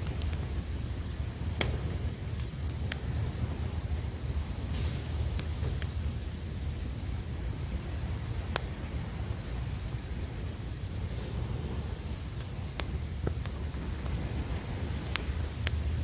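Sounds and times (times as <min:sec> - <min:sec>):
low rumble of sea waves: 0:00.0 - 0:16.0
wood fire crackling pops: 0:00.0 - 0:16.0.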